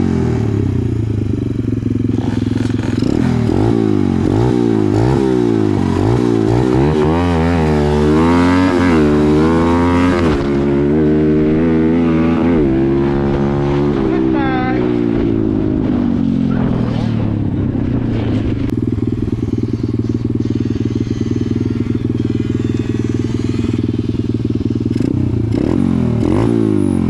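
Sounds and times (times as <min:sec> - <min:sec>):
dirt bike engine revving: 0:00.0 - 0:27.0
low engine note: 0:00.0 - 0:27.0.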